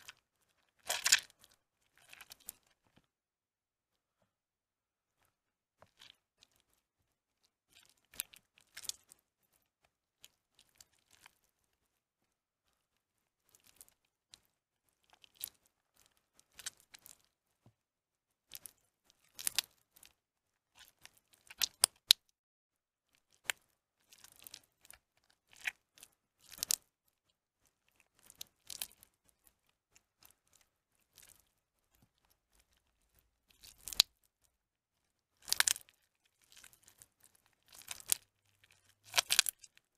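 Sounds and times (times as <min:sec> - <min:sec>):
wet soap crumbling by hand: 0:00.0 - 0:03.2, 0:05.2 - 0:17.4, 0:18.4 - 0:22.4, 0:23.0 - 0:39.9.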